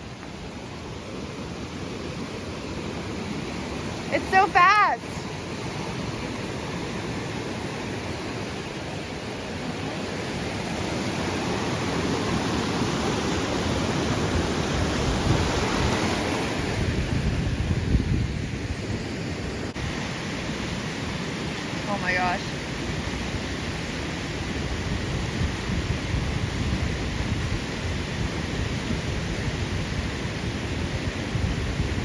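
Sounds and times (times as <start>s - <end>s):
creek rushing: 0.0s - 32.0s.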